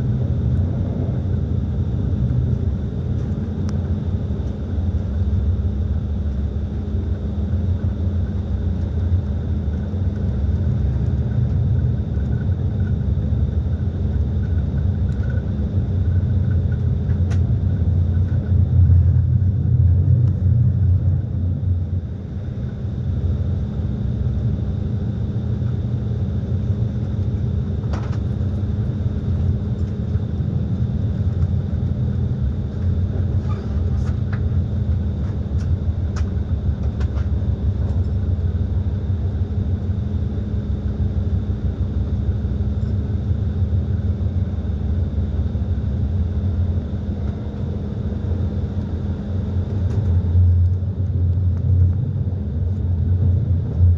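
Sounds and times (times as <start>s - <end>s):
train rumbling on track: 0.0s - 53.9s.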